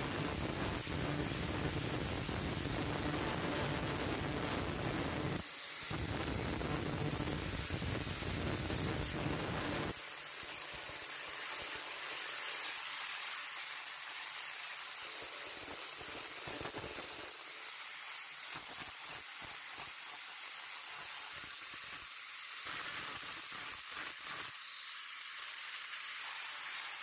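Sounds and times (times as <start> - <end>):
grinder disc hissing on metal: 0.0 - 27.0.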